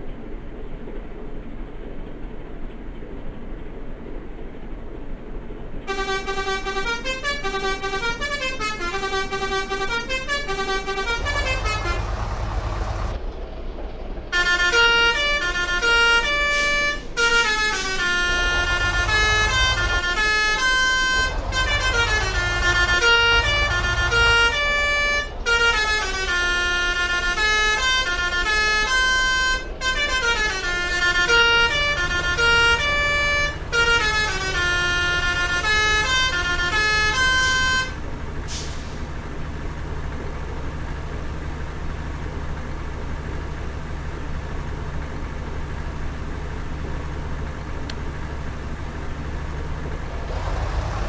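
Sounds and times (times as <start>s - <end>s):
low rumbles: 3.3s - 51.0s
multi-tone bus horn melody: 5.9s - 13.2s, 14.3s - 51.0s.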